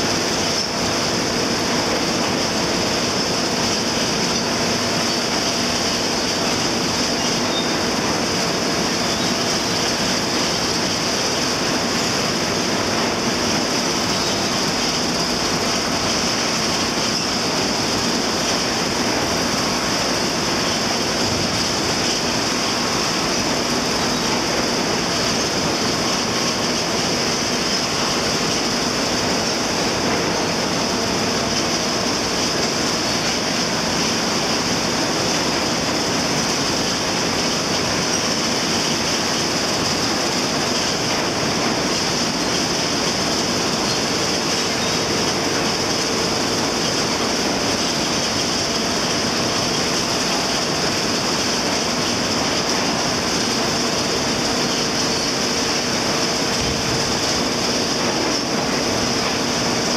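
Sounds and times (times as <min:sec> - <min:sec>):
processing machinery din: 0:00.0 - 0:59.9.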